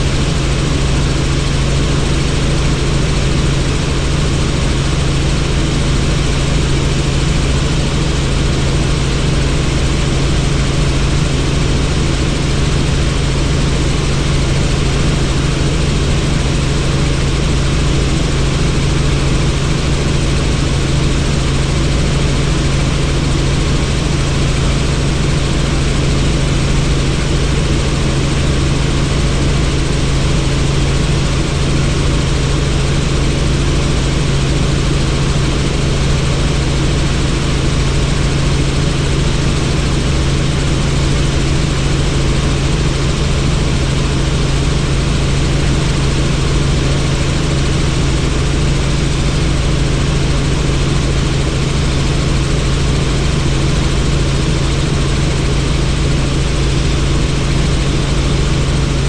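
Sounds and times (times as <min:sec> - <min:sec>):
helicopter rotor and engine noise: 0:00.0 - 0:59.0.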